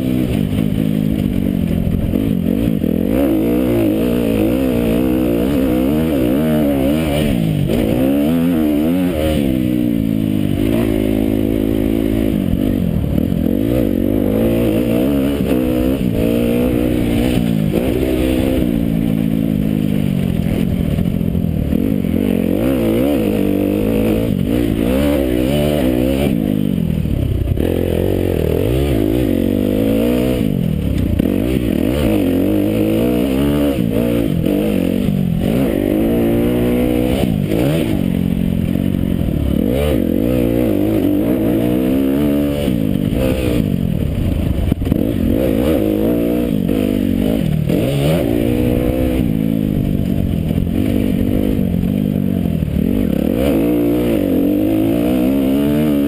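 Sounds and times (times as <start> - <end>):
muffled motocross engine revving: 0.0 - 56.0.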